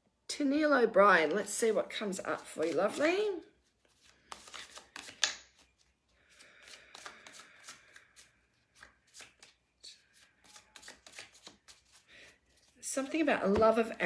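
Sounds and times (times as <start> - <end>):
cards shuffled by hand: 2.4 - 13.7.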